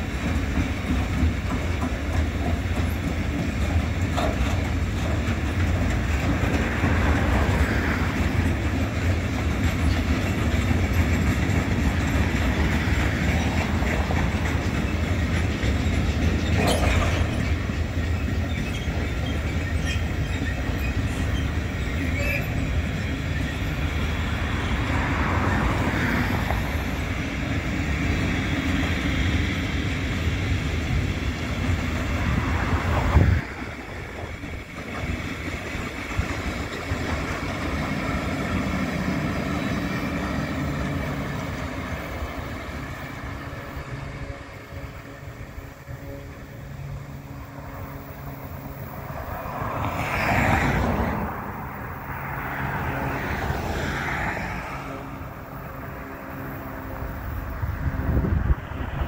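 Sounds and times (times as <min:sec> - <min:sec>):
freight train wheels rumbling: 0:00.0 - 0:59.0
train clatter and squeals: 0:00.0 - 0:59.0.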